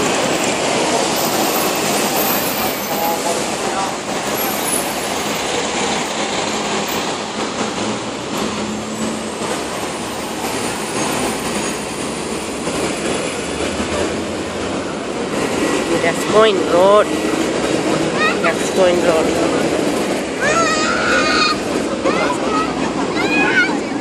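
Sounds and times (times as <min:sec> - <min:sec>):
heavy city street traffic: 0:00.0 - 0:24.0.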